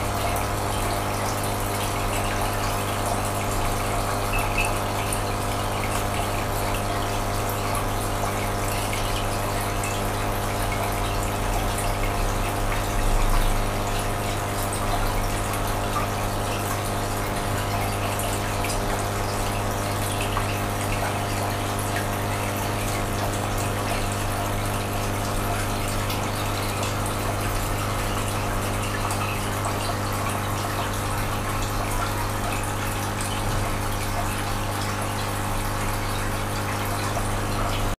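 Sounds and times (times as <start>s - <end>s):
aquarium pump humming: 0.0s - 38.0s
water trickling: 0.0s - 38.0s.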